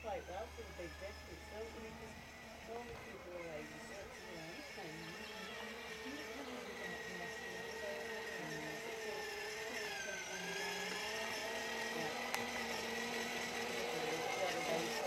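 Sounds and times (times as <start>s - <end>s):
electric toy motor whirring: 0.0s - 15.0s.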